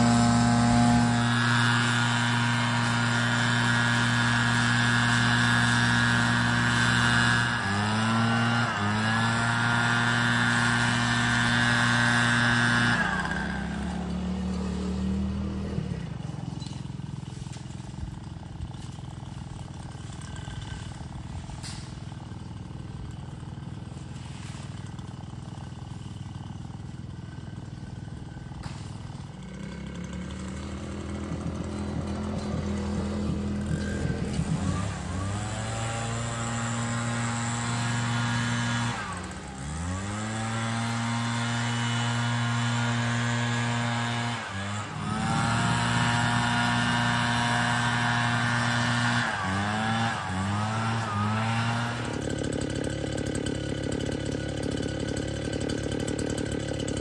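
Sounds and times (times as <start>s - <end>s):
engine revving up: 0.0s - 22.0s, 28.2s - 57.0s
leaf blower running: 0.0s - 57.0s.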